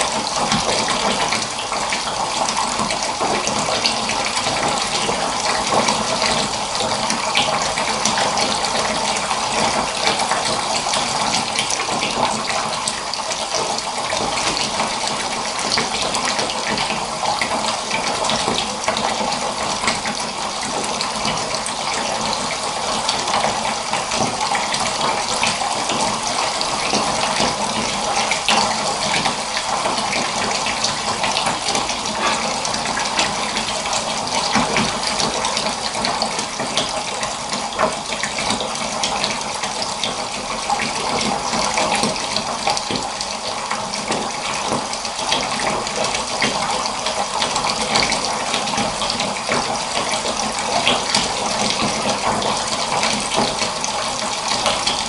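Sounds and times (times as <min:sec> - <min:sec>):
tap water filling bathtub: 0:00.0 - 0:55.0.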